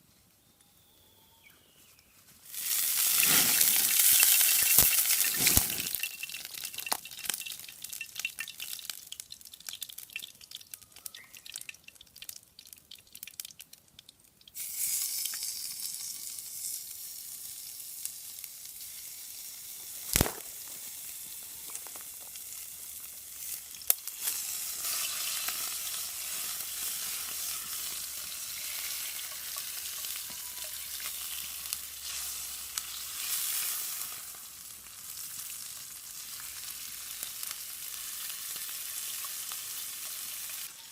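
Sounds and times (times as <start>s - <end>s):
food sizzling in a skillet: 2.5s - 9.1s, 14.6s - 40.9s.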